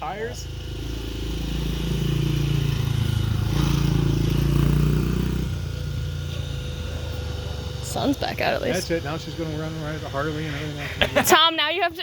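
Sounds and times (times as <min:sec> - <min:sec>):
dirt bike passing: 0:00.0 - 0:12.0.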